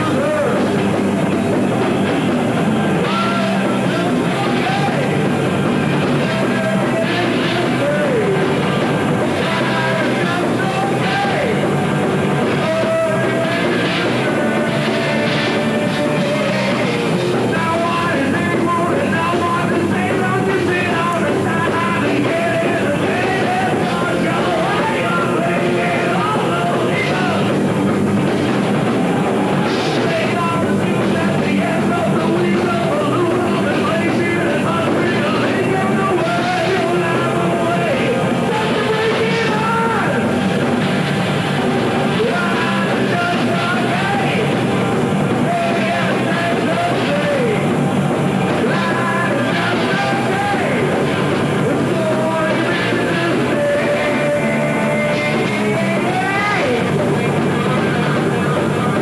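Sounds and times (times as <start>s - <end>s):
man singing: 0.0s - 1.0s, 1.6s - 27.6s, 29.6s - 40.4s, 41.7s - 59.0s
bass guitar: 0.0s - 59.0s
drums: 0.0s - 59.0s
electric guitar: 0.0s - 59.0s
heavy metal band playing: 0.0s - 59.0s.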